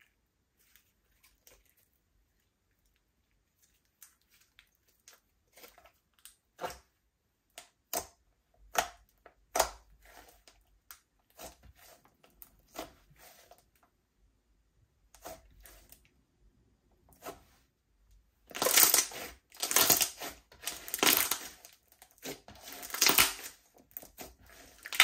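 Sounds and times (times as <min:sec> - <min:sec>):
slime squishing: 0:00.0 - 0:14.0, 0:15.0 - 0:16.1, 0:18.4 - 0:25.0.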